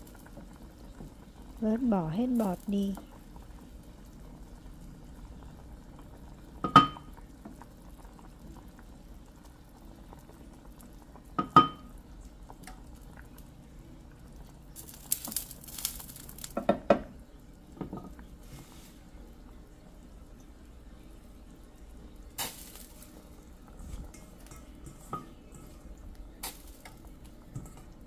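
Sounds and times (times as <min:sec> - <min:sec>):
broth bubbling in a pot: 0:00.0 - 0:28.0.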